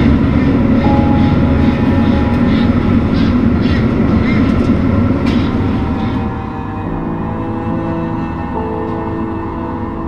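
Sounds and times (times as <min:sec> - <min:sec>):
machinery din: 0:00.0 - 0:09.2.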